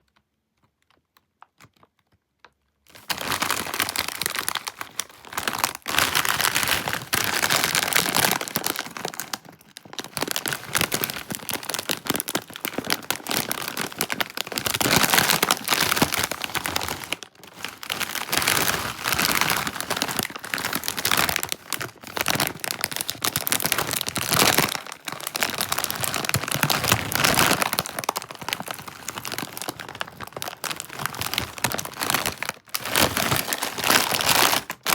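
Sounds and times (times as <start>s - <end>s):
foil chip bag crinkling: 2.9s - 34.9s.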